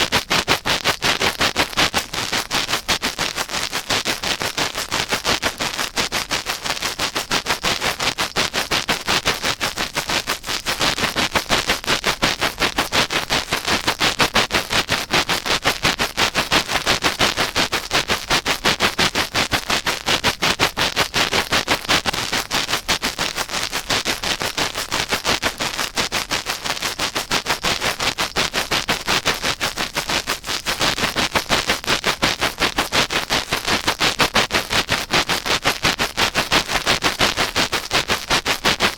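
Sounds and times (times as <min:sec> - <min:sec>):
scratching and rubbing on microphone: 0:00.0 - 0:38.9.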